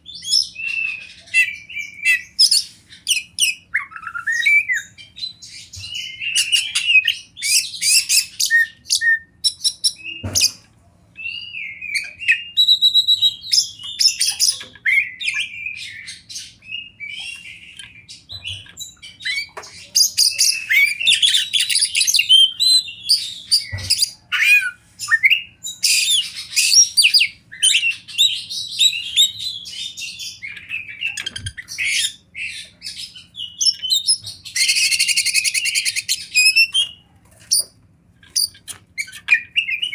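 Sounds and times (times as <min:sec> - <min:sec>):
bird singing whistles and chatter: 0:00.2 - 0:10.6, 0:11.2 - 0:37.0, 0:38.3 - 0:39.9.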